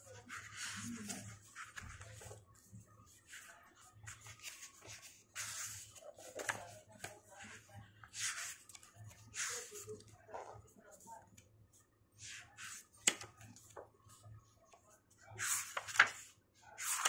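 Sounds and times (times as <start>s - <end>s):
book pages turning: 0.1s - 10.6s, 12.3s - 14.2s, 15.4s - 17.0s.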